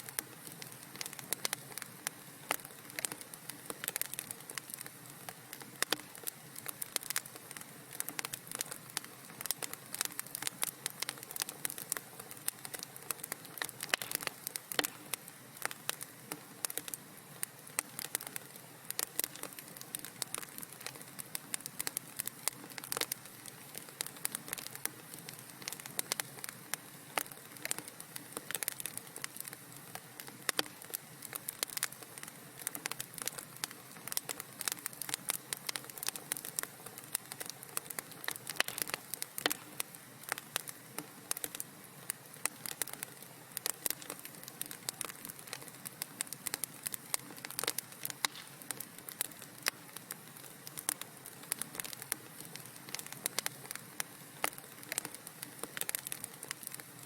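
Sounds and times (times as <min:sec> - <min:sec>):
soft steady hiss: 0:00.0 - 0:57.0
wood fire crackling: 0:00.0 - 0:57.0.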